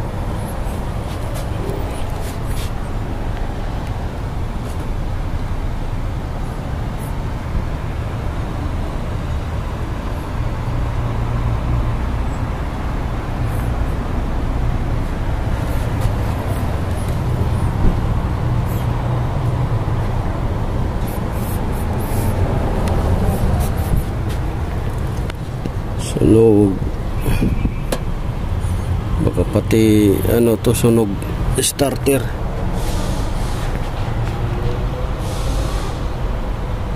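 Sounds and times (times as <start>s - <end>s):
low rumble of motor vehicle: 0.0s - 36.9s.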